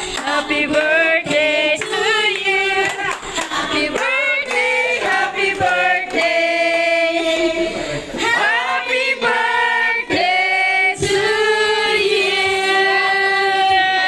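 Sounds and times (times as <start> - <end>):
group singing: 0.0 - 14.0.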